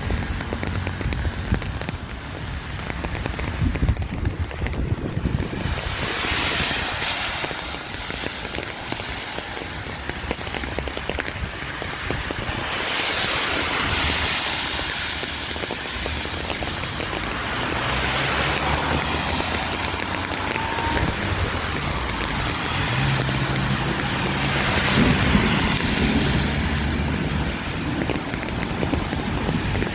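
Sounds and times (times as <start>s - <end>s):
rain hissing: 0.0s - 29.9s
wind buffeting microphone: 0.0s - 29.9s.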